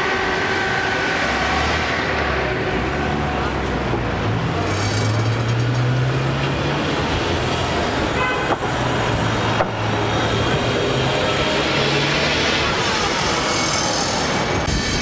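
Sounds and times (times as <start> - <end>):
bus engine droning: 0.0 - 14.8
street traffic: 0.0 - 15.0.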